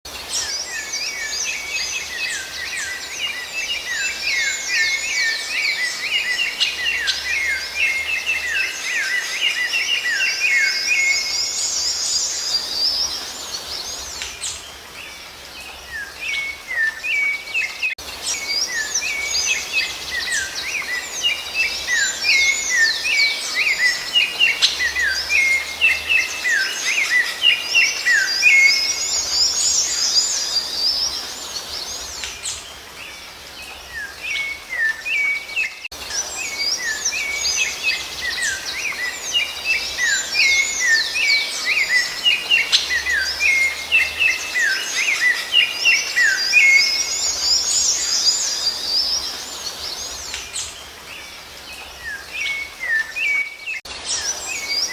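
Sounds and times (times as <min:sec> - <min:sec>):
songbirds chirping and trilling: 0:00.1 - 0:54.9.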